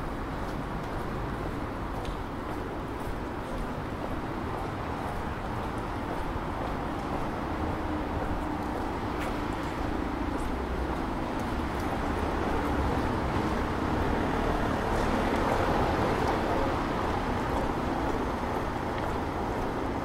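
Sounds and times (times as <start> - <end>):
traffic hiss on wet pavement: 0.0 - 20.0.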